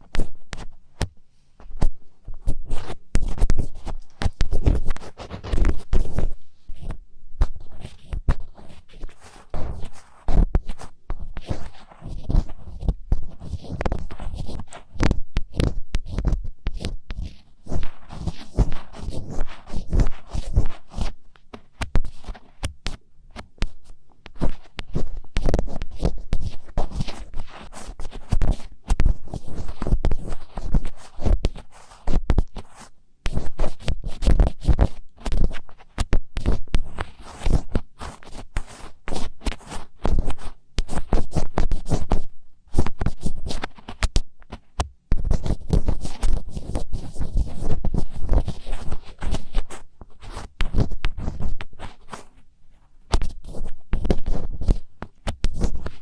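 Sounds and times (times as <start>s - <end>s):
scratching on microphone: 0.0s - 56.0s.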